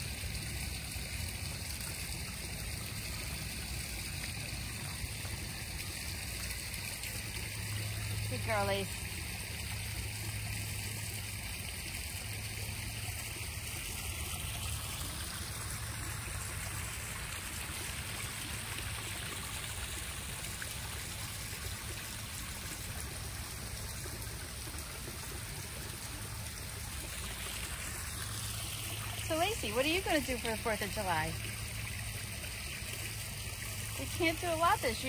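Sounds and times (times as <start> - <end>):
waterfall splashing into pond: 0.0 - 35.0.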